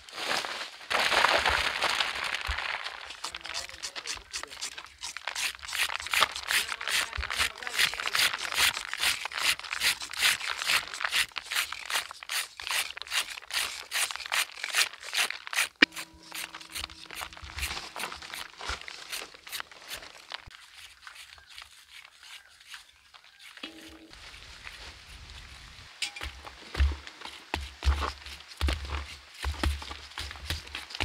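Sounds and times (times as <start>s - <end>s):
knife scraping gourd skin: 3.1s - 24.2s, 26.2s - 31.0s.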